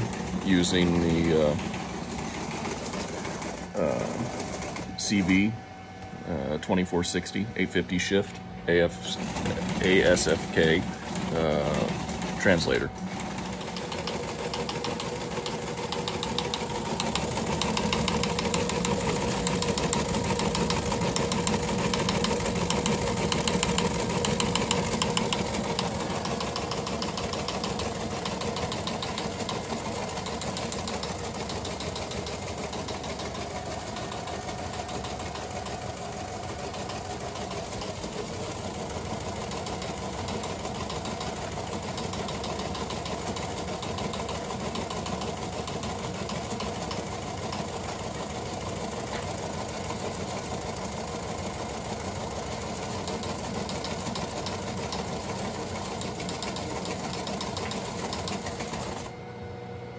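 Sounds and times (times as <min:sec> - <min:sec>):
teletype printer clattering: 0:00.0 - 0:05.3, 0:09.1 - 0:59.1.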